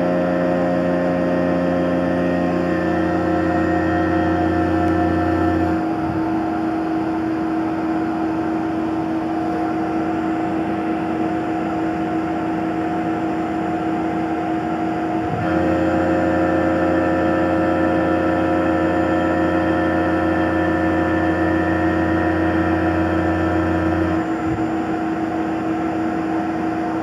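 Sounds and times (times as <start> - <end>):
milling machine spindle whine: 0.0 - 27.0.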